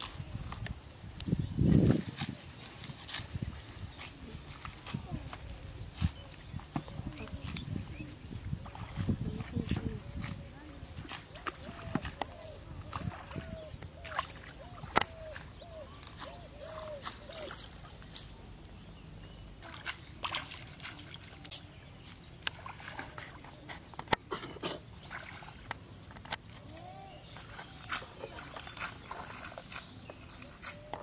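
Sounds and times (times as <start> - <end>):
water sloshing: 1.7 - 18.5, 19.6 - 31.0.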